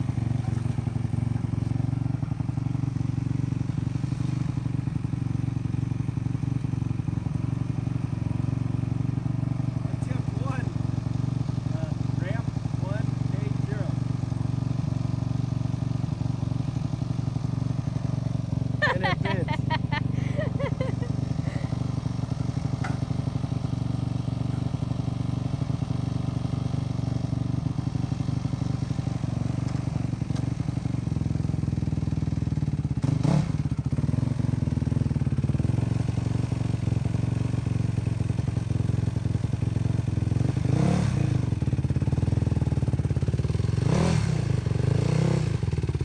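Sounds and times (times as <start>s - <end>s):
dirt bike engine idling and revving: 0.0s - 46.0s.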